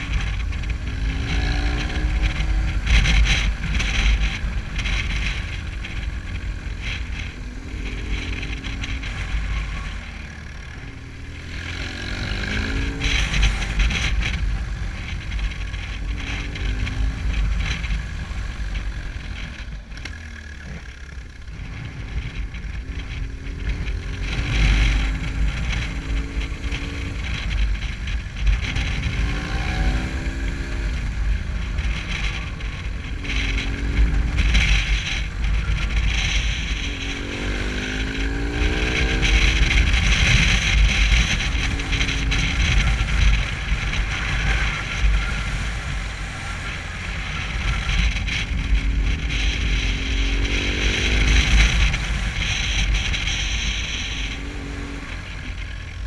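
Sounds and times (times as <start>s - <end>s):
motorcycle engine accelerating: 0.0s - 56.0s
wind rumble: 0.0s - 56.0s.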